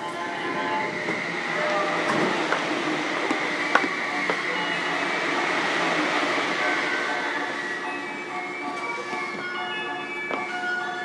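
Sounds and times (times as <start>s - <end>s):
electric train running noise: 0.0s - 11.0s.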